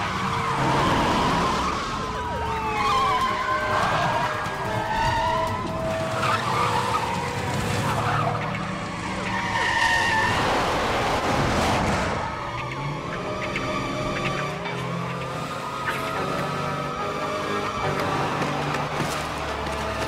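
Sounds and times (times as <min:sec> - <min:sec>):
engine and road noise: 0:00.0 - 0:20.0
tires squealing: 0:00.0 - 0:20.0.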